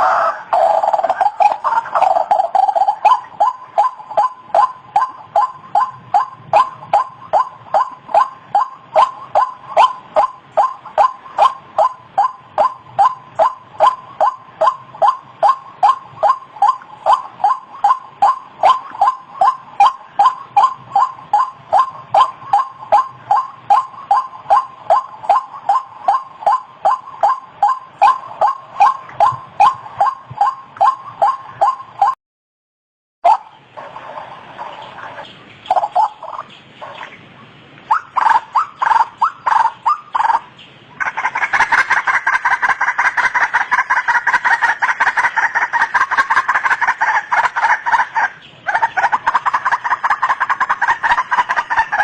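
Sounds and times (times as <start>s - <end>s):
waterhen calling: 0.0s - 32.2s, 33.2s - 52.0s.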